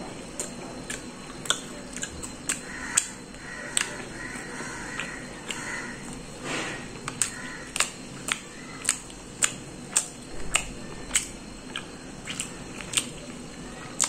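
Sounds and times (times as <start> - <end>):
person chewing with wet clicks: 0.0 - 14.0.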